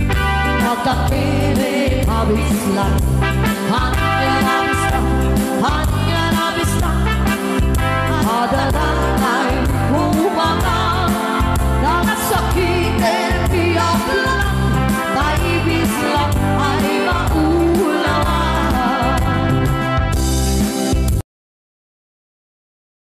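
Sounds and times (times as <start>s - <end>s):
keyboard band playing: 0.0s - 21.2s
women singing into microphones: 0.5s - 19.7s.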